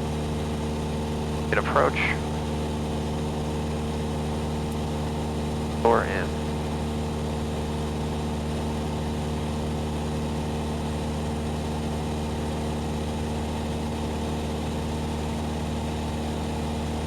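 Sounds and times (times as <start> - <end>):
airplane engine and propeller running: 0.0 - 17.0.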